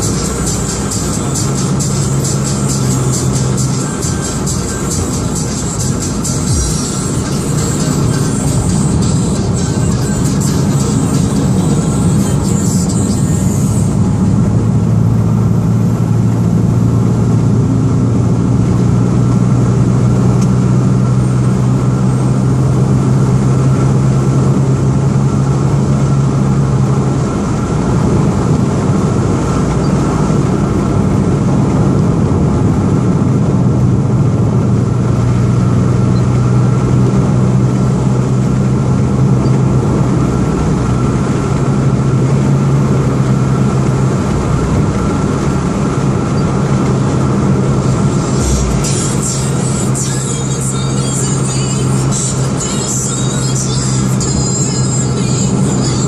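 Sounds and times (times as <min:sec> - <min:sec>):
car engine droning: 0:00.0 - 0:56.0
tyre and road noise: 0:00.0 - 0:56.0.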